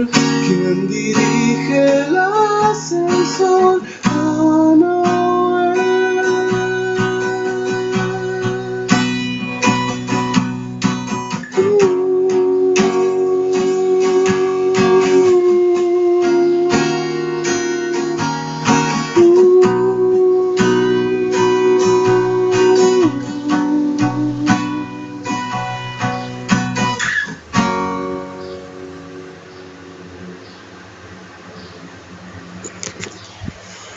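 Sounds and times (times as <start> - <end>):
held melody notes: 0.0 - 30.7
acoustic guitar strumming: 0.0 - 33.9.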